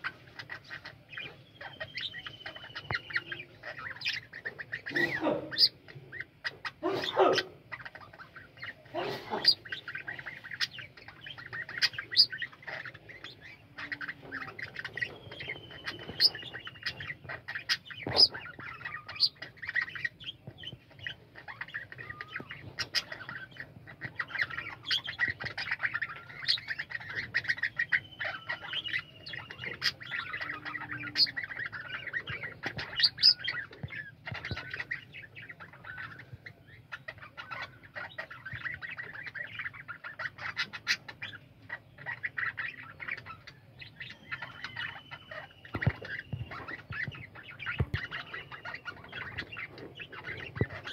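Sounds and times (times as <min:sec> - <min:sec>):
budgerigars chirping and warbling: 0:00.0 - 0:50.9.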